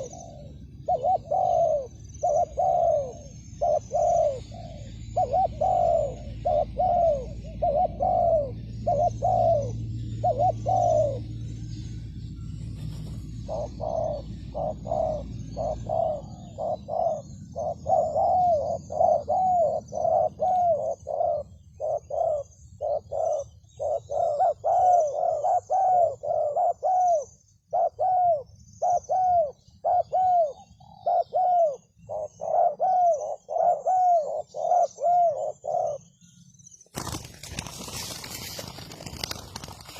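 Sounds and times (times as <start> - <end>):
doves cooing: 0.0 - 36.2
small birds chirping: 0.0 - 39.9.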